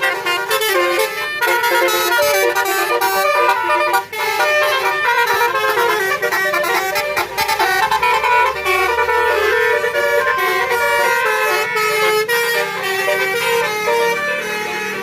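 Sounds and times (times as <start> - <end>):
multi-trumpet bus horn tune: 0.0 - 15.0.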